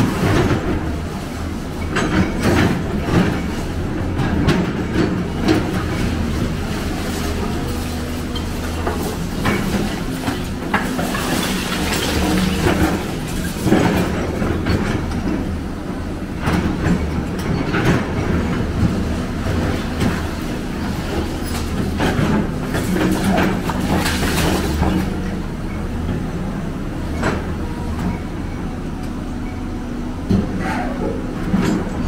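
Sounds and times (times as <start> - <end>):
diesel machinery running: 0.0 - 32.0.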